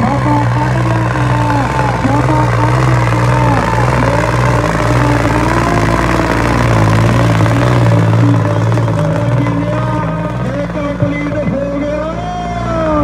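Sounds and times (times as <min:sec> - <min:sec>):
tractor diesel engine labouring: 0:00.0 - 0:13.0.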